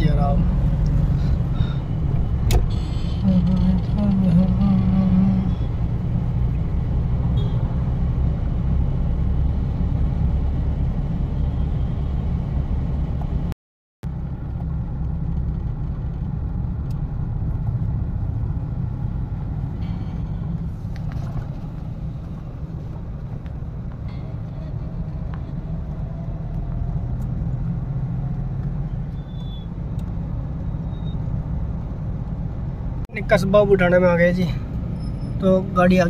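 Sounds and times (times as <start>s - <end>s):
vehicle engine and tyre rumble: 0.0s - 36.0s.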